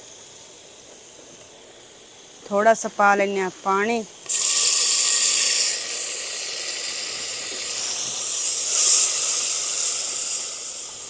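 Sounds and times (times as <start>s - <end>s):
masala hissing in pot: 0.0s - 11.0s.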